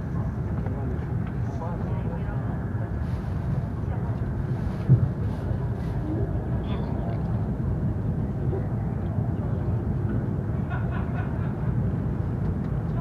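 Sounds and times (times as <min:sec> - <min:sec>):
train cabin rumble and rush: 0:00.0 - 0:13.0.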